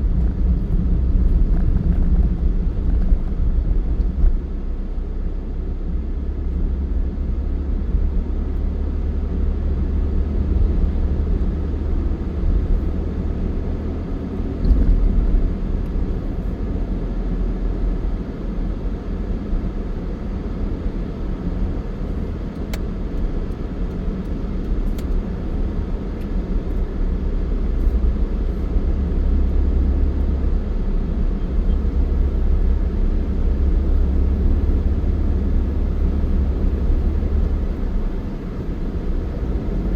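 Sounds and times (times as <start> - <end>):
vehicle road and engine noise: 0.0 - 39.9.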